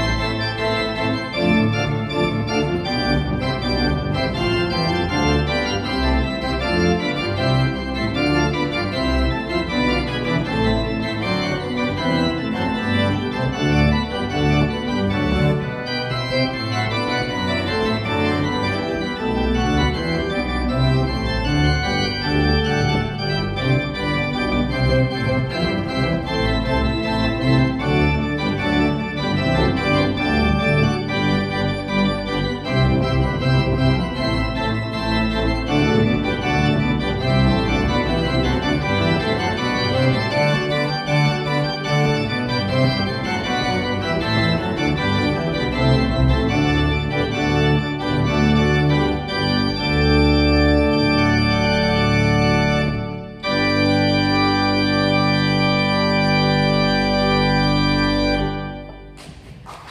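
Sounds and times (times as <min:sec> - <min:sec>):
low organ pedal notes: 0:00.0 - 0:59.2
pipe organ chords: 0:00.0 - 0:59.9.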